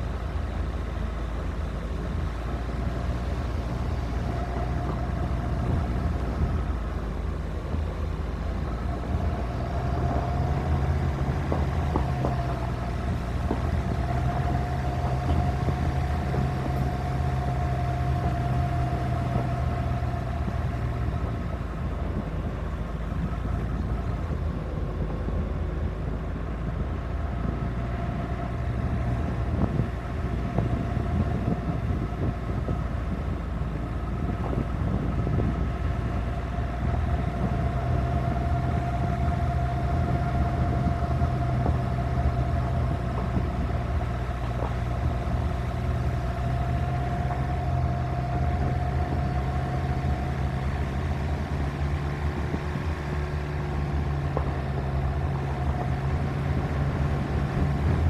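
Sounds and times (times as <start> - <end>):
car engine hum with whine: 0.0 - 58.0
stones ticking under wheels: 8.6 - 25.6, 26.2 - 58.0.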